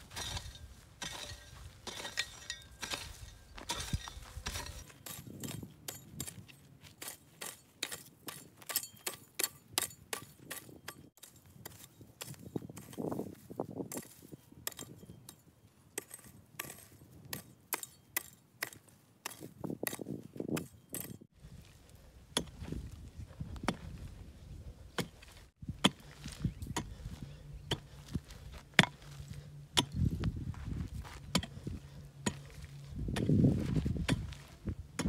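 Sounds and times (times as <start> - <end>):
hoe chopping into dry soil: 0.0 - 15.4, 16.0 - 21.3, 22.3 - 24.2, 24.9 - 35.0.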